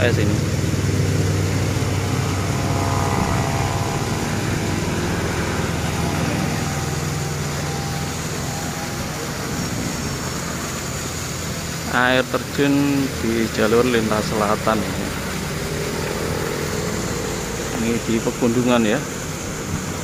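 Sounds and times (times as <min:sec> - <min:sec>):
vehicle engine hum: 0:00.0 - 0:20.0
waterfall rushing: 0:00.0 - 0:20.0.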